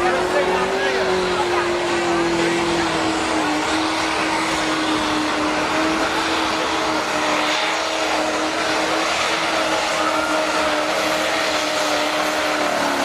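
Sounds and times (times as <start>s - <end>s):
engine droning at high revs: 0.0s - 13.0s.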